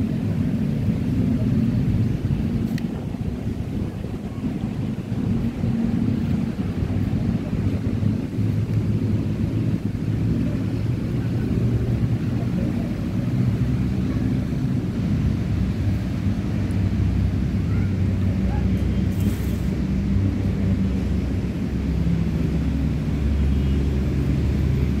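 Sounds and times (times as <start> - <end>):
engine rumble: 0.0 - 25.0.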